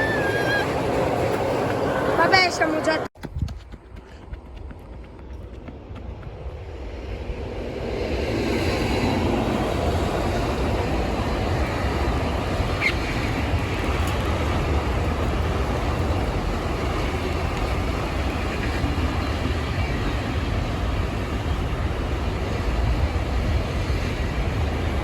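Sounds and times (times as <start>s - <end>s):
freight train rumbling past: 0.0s - 3.1s, 3.8s - 25.0s.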